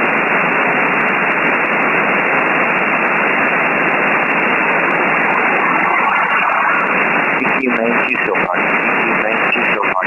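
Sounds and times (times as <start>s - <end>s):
shortwave radio hiss: 0.0s - 10.0s.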